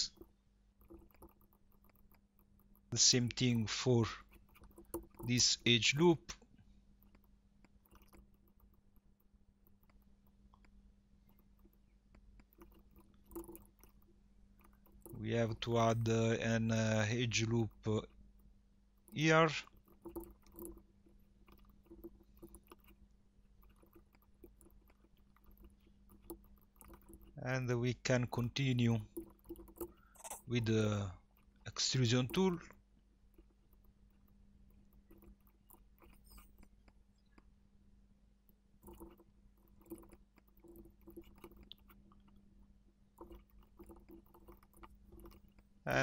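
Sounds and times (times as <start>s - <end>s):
computer mouse clicks: 0.0s - 37.5s, 38.5s - 42.4s, 43.1s - 46.0s
faint electrical hum: 0.0s - 46.0s.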